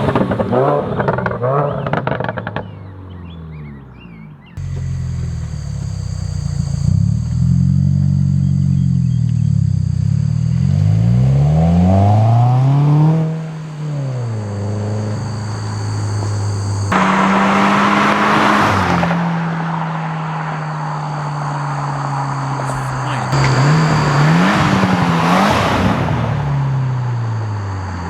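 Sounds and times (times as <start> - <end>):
car engine revving: 4.6 - 28.0.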